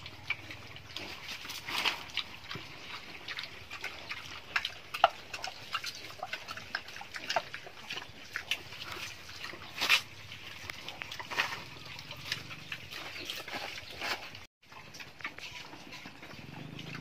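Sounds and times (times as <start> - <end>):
pigs crunching and snuffling: 0.0 - 17.0.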